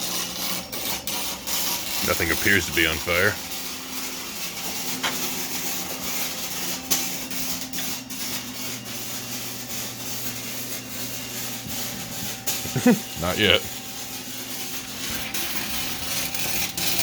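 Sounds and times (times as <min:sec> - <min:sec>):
welder arc crackling and hissing: 0:00.0 - 0:17.0.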